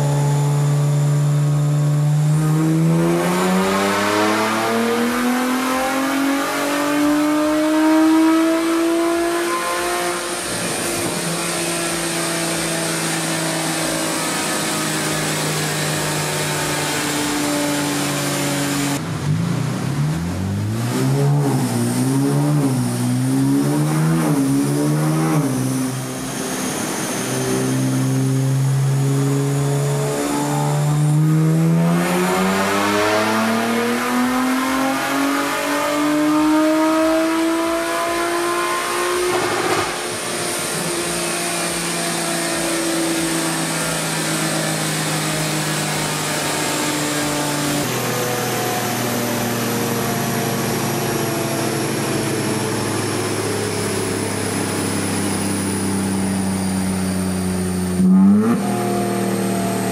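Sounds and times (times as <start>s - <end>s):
car engine revving on dyno: 0.0s - 59.9s.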